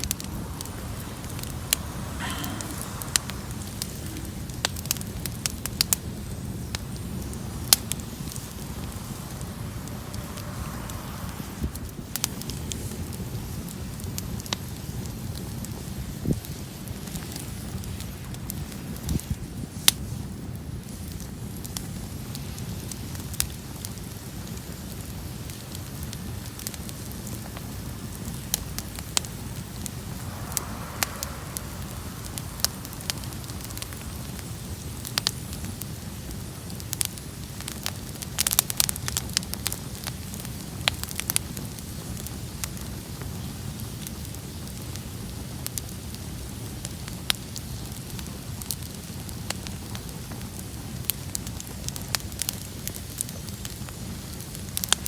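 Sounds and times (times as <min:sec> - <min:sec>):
bonfire flame rushing: 0:00.0 - 0:55.0
fire crackling: 0:00.0 - 0:55.0
sharp pops of fire: 0:00.0 - 0:55.0.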